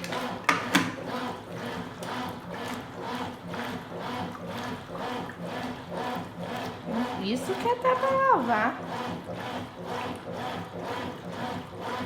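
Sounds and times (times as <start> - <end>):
washing machine agitating water: 0.0 - 12.0.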